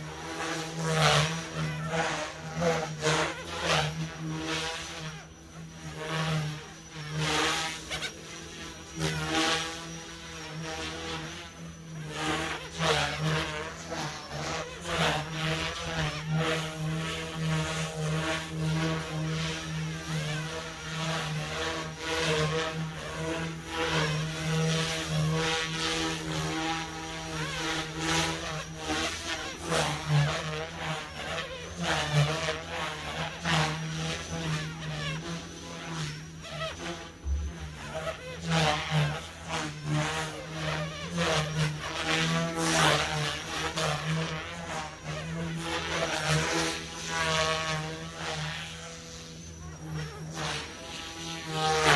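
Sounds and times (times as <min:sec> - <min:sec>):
rc helicopter buzzing and whining: 0:00.0 - 0:51.9.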